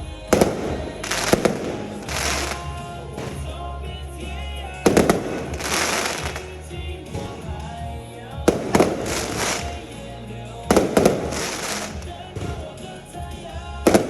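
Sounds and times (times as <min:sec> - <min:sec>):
fireworks bursting: 0:00.0 - 0:14.0
fireworks crackling: 0:00.0 - 0:14.0.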